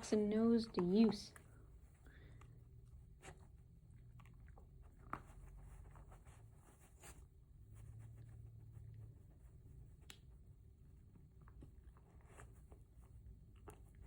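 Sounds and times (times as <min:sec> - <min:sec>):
faint clicks and rustles: 0:00.0 - 0:14.0.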